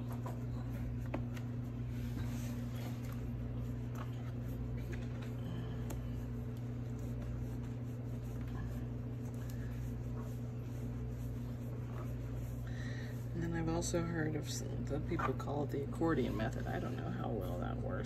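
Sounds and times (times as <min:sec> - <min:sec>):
towel rustling and rubbing: 0:00.0 - 0:17.8
steady low hum: 0:00.0 - 0:18.0.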